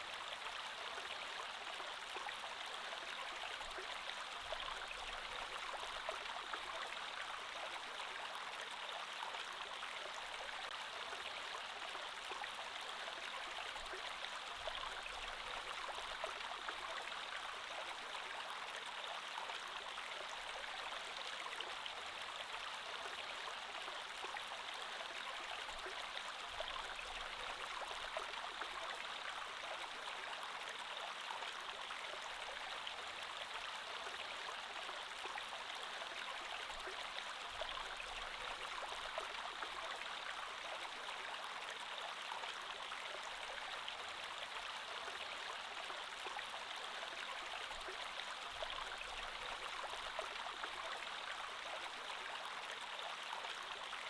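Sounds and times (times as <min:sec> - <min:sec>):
creek water flowing over stones: 0:00.0 - 0:54.0.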